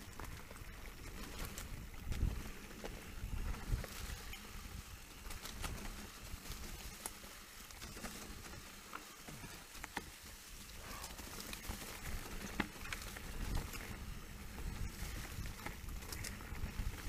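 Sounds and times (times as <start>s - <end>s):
bike tyre and trail noise: 0.0s - 17.0s.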